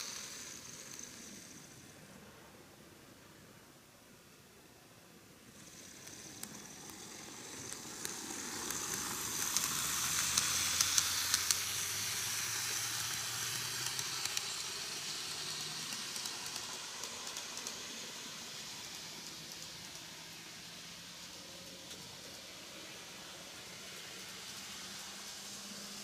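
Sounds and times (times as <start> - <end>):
model train motor whirring: 0.0 - 2.0, 5.5 - 26.0.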